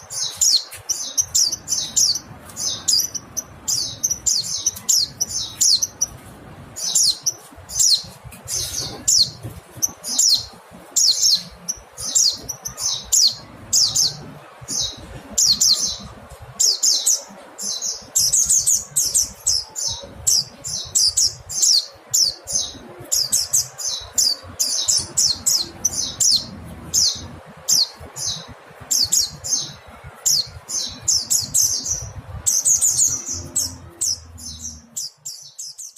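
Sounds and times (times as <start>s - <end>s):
bird high thin chirping: 0.0s - 35.9s.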